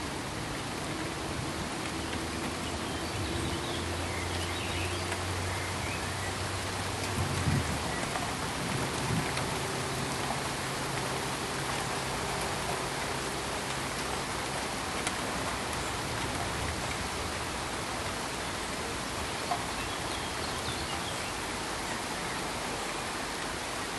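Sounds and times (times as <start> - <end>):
pink noise hiss: 0.0 - 23.9.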